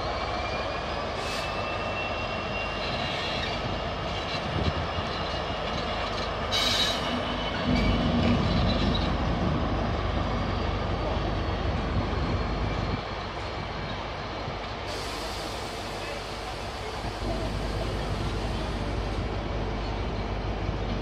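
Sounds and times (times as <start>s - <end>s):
diesel locomotive engine droning: 0.0s - 21.0s.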